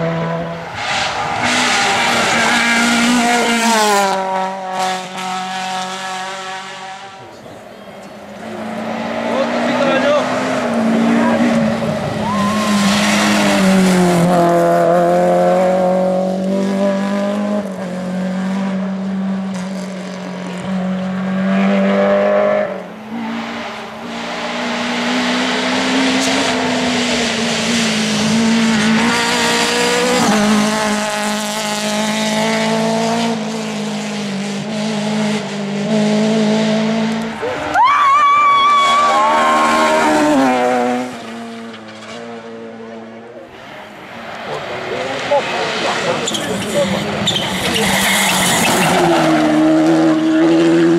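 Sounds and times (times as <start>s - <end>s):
rally car engines revving hard: 0.0s - 50.9s.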